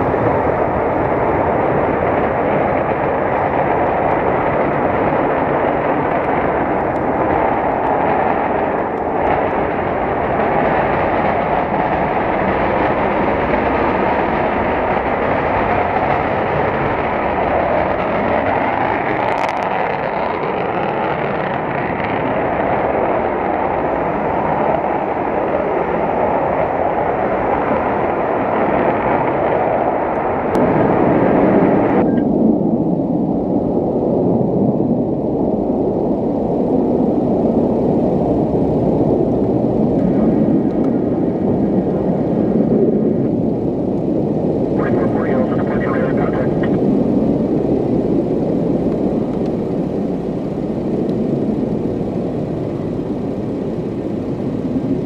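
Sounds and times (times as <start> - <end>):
distant jet engines at takeoff: 0.0 - 55.0.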